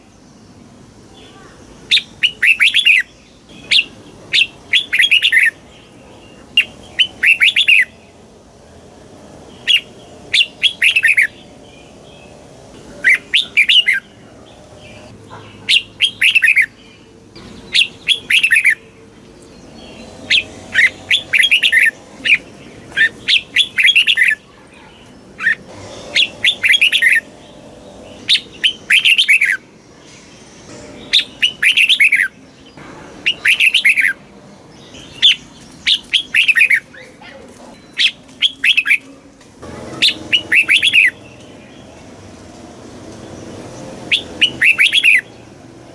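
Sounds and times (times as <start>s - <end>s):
bulbul singing: 1.2s - 45.8s.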